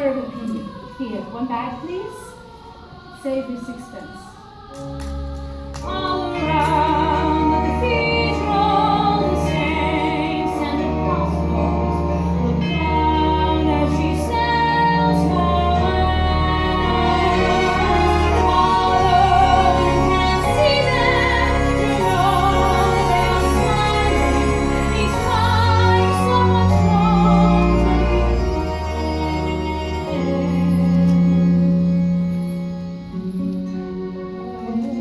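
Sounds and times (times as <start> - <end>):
instrumental accompaniment: 4.7 - 35.0.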